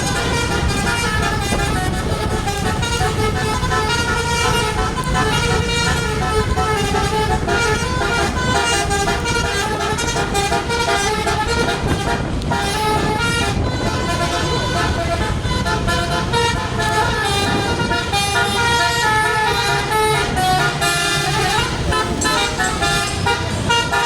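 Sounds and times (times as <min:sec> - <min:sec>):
bus engine rumbling: 0:00.0 - 0:24.0
multi-tone bus air horn melody: 0:00.0 - 0:24.0.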